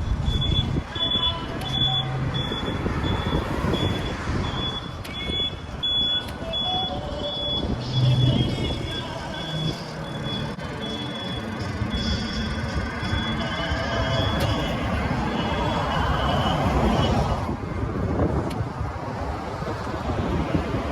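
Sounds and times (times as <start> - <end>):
electronic beeper: 0.0 - 17.2
street traffic rumble: 0.0 - 20.9.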